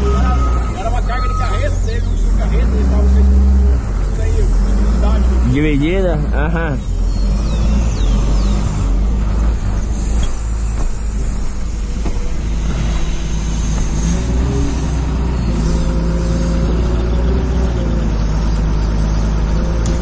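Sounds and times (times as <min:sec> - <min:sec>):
deep rumble: 0:00.0 - 0:20.0
forklift engine running: 0:00.0 - 0:20.0.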